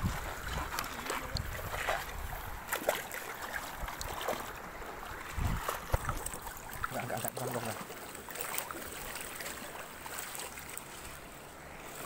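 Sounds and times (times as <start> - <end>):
seawater washing among rocks: 0.0 - 12.0.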